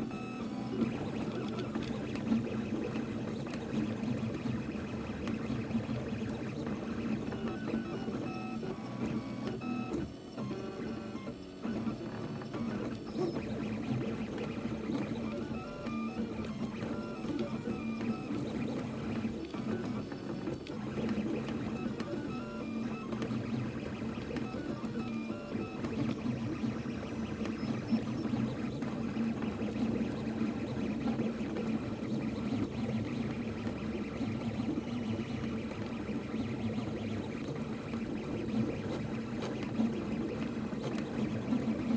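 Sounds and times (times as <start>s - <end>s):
stepper motors pitched tones: 0.0s - 41.9s.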